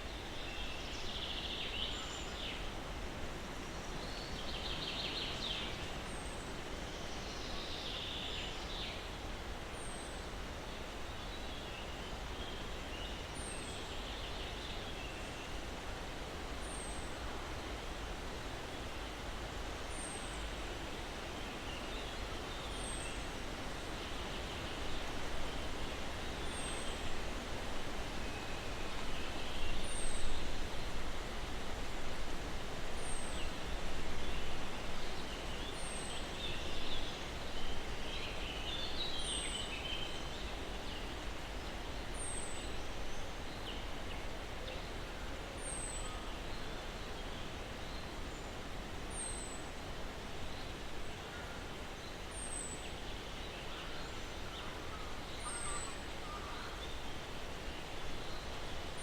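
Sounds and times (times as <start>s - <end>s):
breeze rustling pine trees: 0.0s - 59.0s.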